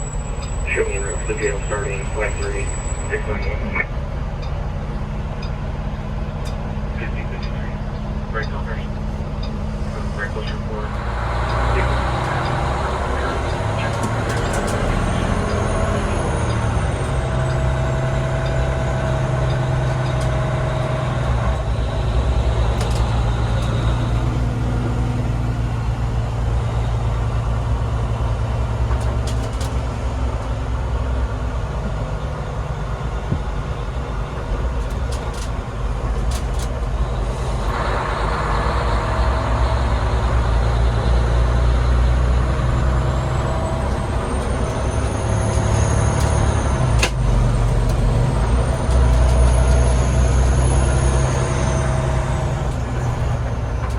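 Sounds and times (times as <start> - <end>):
truck engine droning: 0.0 - 53.9.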